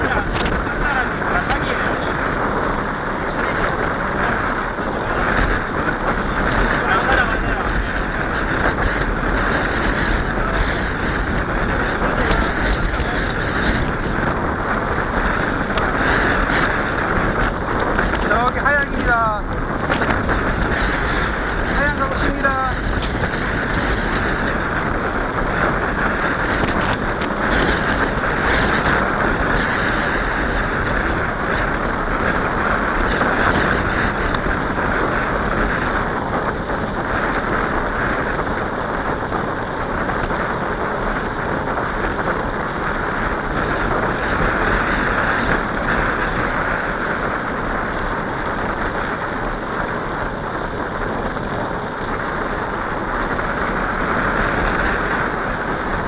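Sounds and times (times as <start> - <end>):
bicycle tyres rolling on path: 0.0 - 56.0
wind on microphone: 0.0 - 56.0.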